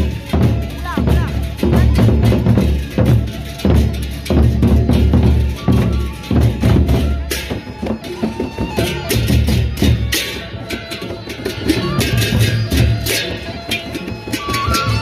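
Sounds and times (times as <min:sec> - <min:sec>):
hand cymbals clashing: 0:00.0 - 0:15.0
large drums beating: 0:00.0 - 0:15.0.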